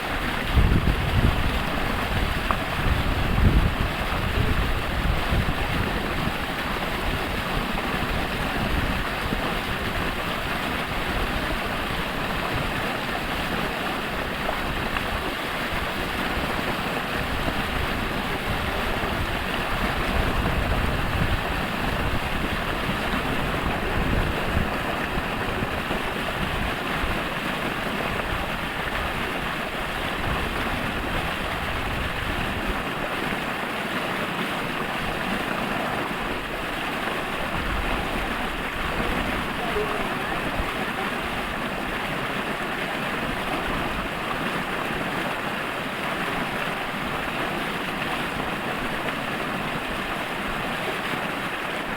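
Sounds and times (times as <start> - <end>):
falling water splashing: 0.0 - 51.9.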